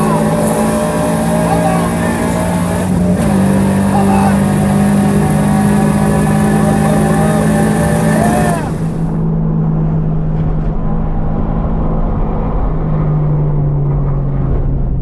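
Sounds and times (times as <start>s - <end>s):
car engine at steady speed: 0.0s - 15.0s.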